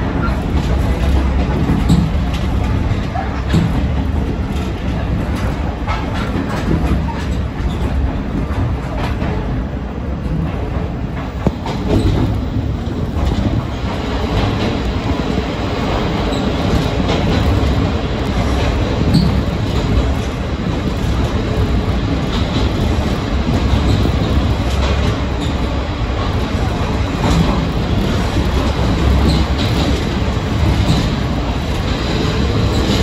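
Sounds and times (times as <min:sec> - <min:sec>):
rail-joint clicks: 0:00.0 - 0:33.0
train engine and wheels rumbling: 0:00.0 - 0:33.0.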